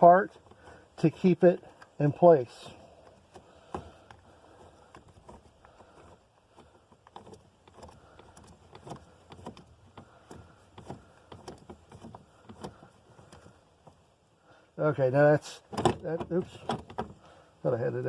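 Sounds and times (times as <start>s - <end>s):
jack clicking and metal knocks: 0.0s - 14.1s, 15.5s - 17.4s.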